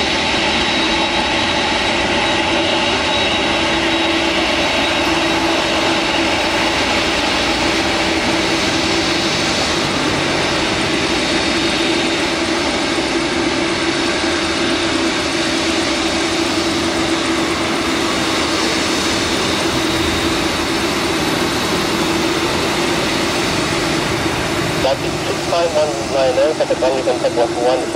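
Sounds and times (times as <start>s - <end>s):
jet engines running with whine: 0.0s - 27.9s.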